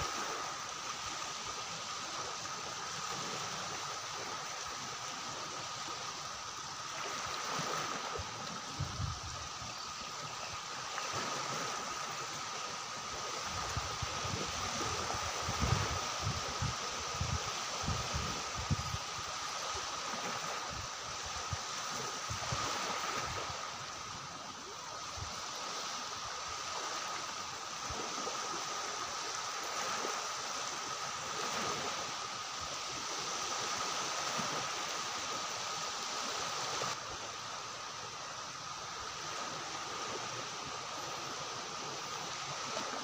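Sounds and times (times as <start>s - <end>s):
water rushing: 0.0s - 43.0s.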